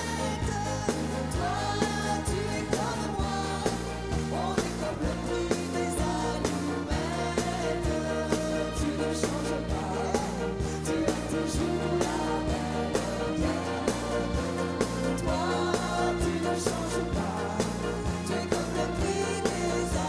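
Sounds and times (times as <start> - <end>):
full band playing: 0.0 - 20.0
man and woman singing: 0.0 - 20.0.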